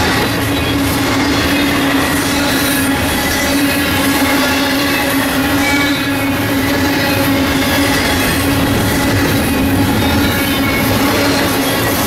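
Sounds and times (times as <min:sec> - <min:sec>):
steady low hum: 0:00.0 - 0:12.0
train wheels on rails: 0:00.0 - 0:12.0.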